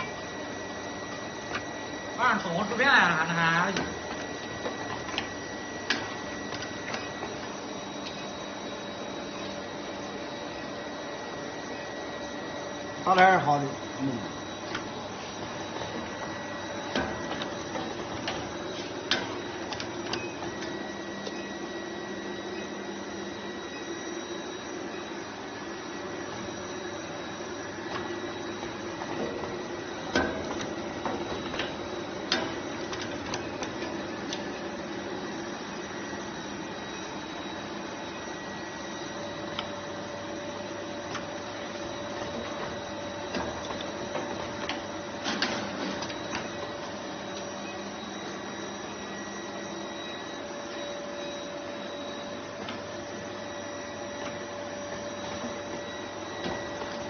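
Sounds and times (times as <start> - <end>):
machine humming: 0.0 - 57.0.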